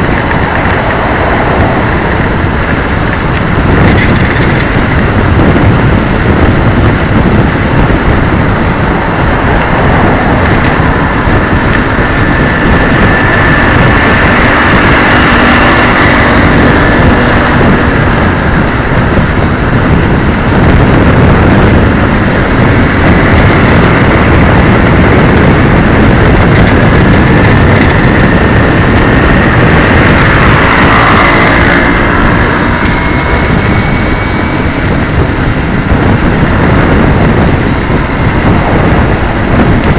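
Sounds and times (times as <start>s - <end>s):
small motorcycle engine: 0.0s - 39.9s
wind and road noise: 0.0s - 39.9s.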